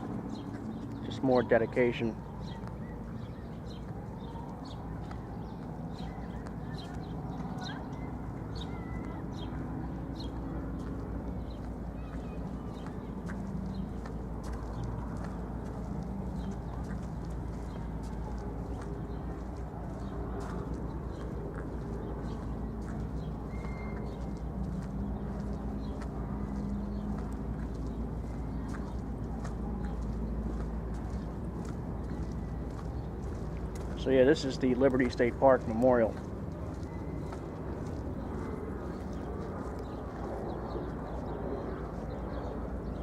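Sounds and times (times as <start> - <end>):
footsteps on hard pavement: 0.0 - 43.0
steady low rumble: 0.0 - 43.0.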